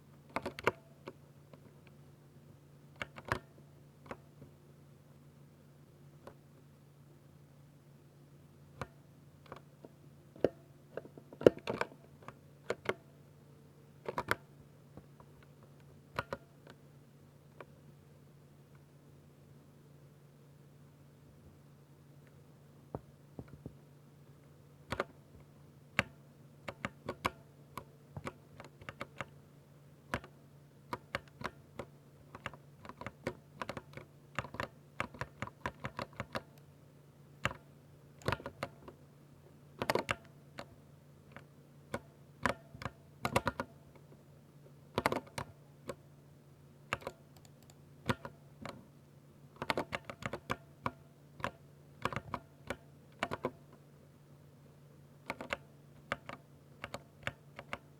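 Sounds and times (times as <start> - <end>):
faint low hum: 0.0 - 57.9.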